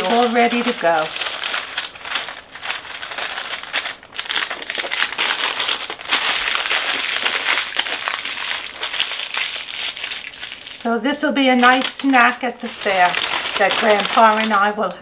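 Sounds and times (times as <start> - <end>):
wax paper crinkling: 0.0 - 15.0.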